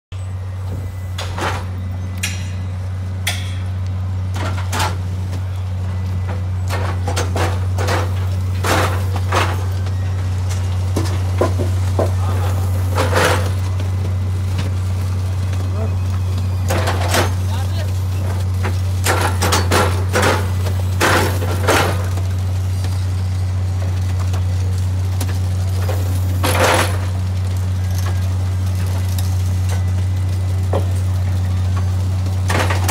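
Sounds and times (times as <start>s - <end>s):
engine low drone: 0.1s - 32.9s.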